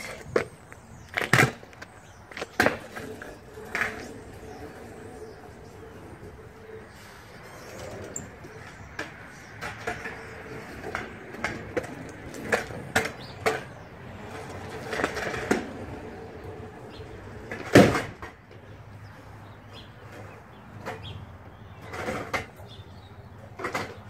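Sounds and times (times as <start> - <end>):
scooter wheels clacking on tarmac: 0.0 - 24.0.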